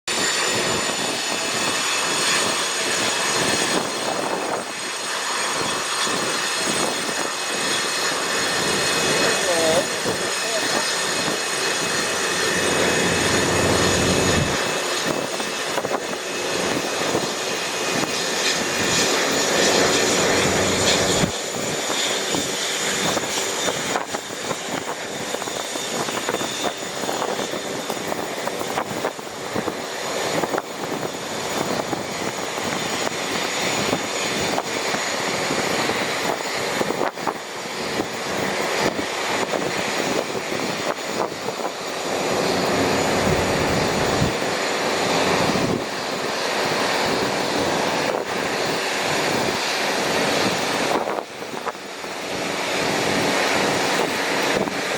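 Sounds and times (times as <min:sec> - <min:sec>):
jet engines running: 0:00.1 - 0:54.9.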